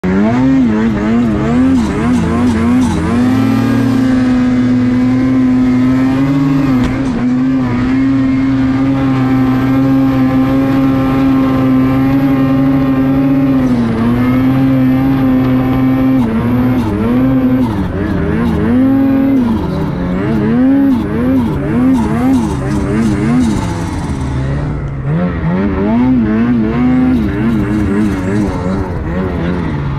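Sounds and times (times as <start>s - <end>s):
snowmobile engine at high revs: 0.0s - 29.9s.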